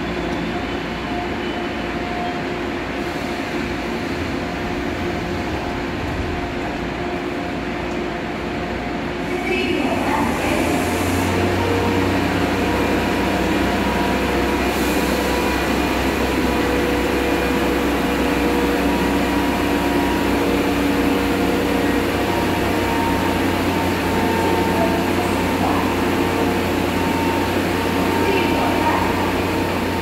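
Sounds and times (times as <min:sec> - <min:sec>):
train equipment humming: 0:00.0 - 0:30.0.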